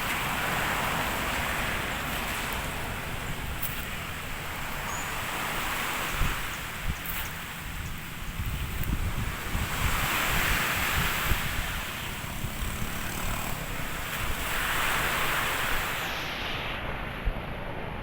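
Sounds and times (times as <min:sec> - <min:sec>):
sea waves surging: 0:00.0 - 0:18.0
wind buffeting microphone: 0:00.0 - 0:18.0.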